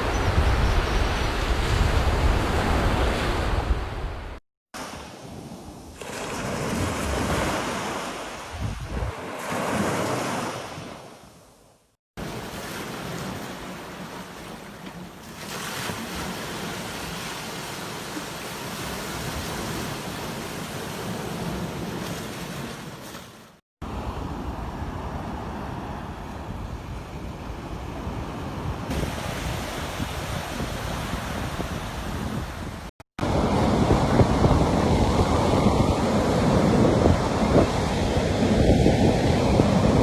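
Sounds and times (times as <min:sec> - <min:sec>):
sea waves breaking on beach: 0:00.0 - 0:11.3, 0:12.2 - 0:40.0.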